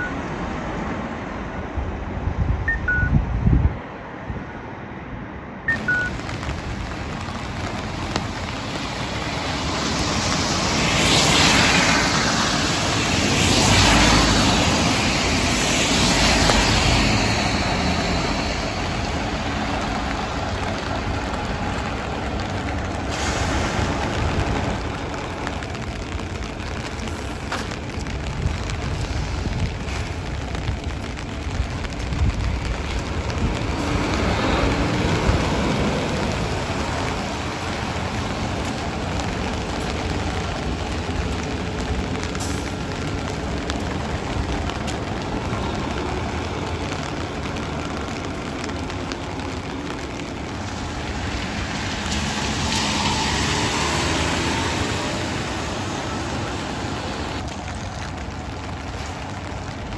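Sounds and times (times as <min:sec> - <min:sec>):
tyres hissing on wet road: 0:05.7 - 0:59.9
diesel engine of a bus: 0:11.8 - 0:59.9.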